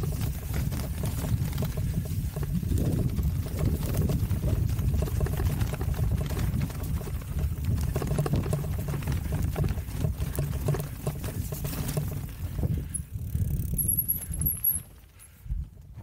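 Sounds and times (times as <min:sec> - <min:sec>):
bike rolling over rough trail: 0:00.0 - 0:16.0.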